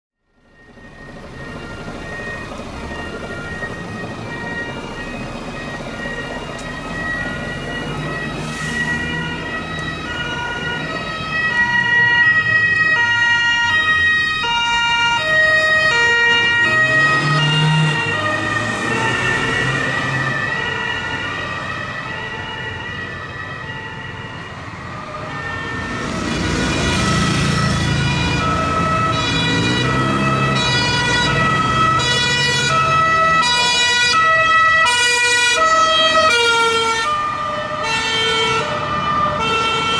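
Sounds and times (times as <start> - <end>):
engine and traffic noise: 0.2 - 39.9
police sirens two-tone wail: 0.2 - 39.9.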